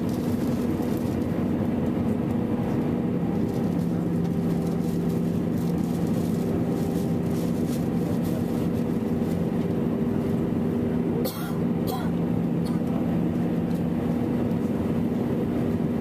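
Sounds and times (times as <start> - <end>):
jet engine and airflow drone: 0.0 - 16.0.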